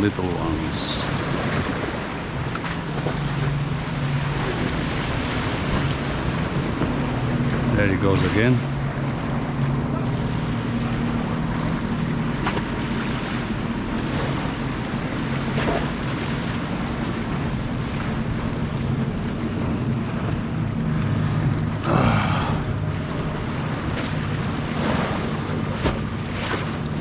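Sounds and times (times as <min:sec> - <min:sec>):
steady low drone: 0:00.0 - 0:27.0
waves washing: 0:00.0 - 0:27.0.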